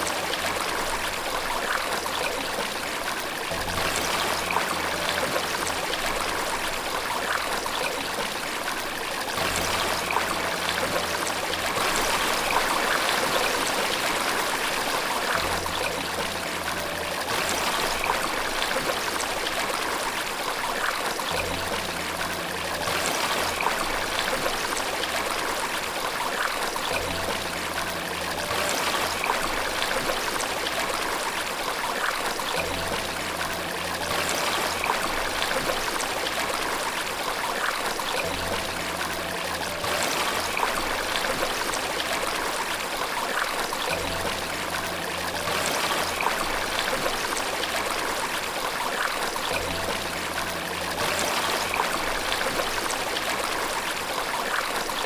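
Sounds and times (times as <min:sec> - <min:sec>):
waterfall rushing water: 0:00.0 - 0:55.0.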